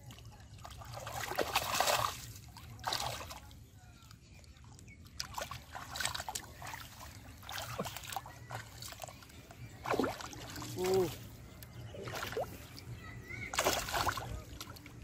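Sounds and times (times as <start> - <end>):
splashing in shallow water: 0.0 - 15.0.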